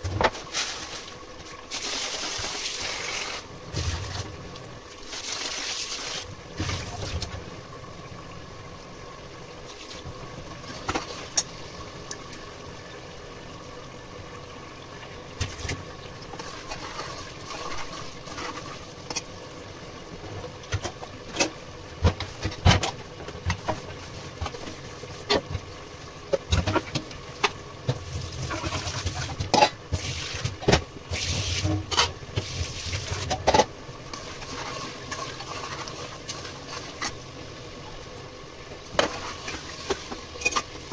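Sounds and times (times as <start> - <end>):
cooking pot hum: 0.0 - 40.9.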